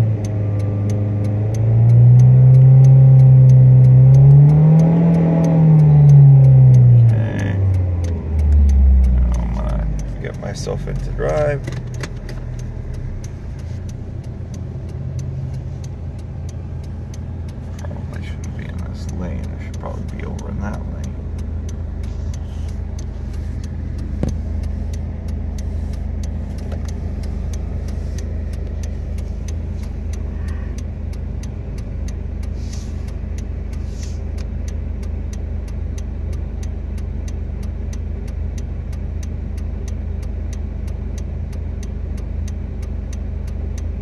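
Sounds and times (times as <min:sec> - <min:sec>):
car engine idling: 0:00.0 - 0:44.0
turn signal ticking: 0:00.0 - 0:44.0.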